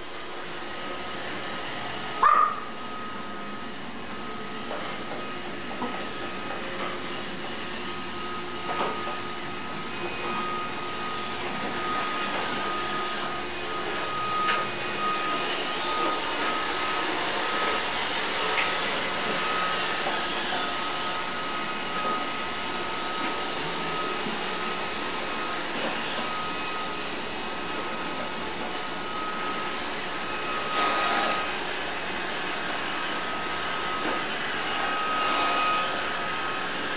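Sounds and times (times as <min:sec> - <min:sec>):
thin steady whine: 0:02.2 - 0:36.0
robot vacuum whirring: 0:04.5 - 0:36.9.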